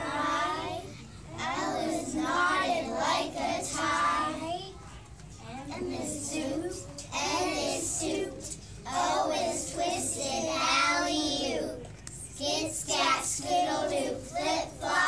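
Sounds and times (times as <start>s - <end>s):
young children singing: 0.0s - 4.7s, 5.5s - 15.0s.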